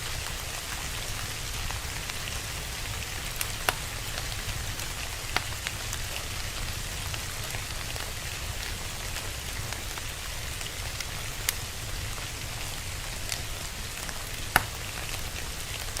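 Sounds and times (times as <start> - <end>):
fire crackling: 0.0 - 16.0
steady rain: 0.0 - 16.0.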